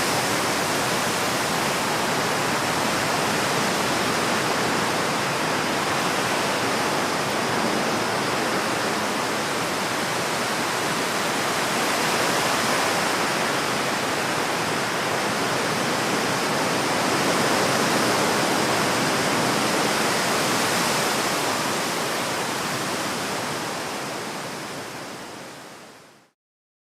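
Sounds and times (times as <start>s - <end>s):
strong wind blowing: 0.0s - 25.6s.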